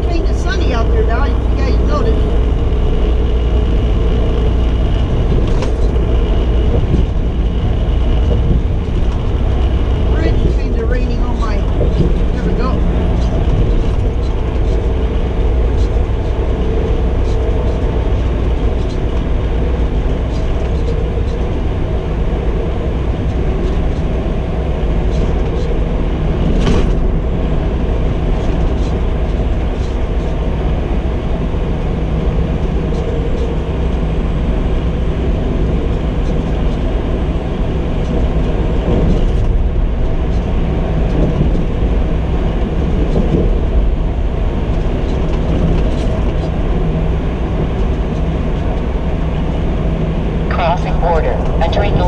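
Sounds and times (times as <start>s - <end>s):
road noise: 0.0s - 52.0s
truck engine drone: 0.0s - 52.0s.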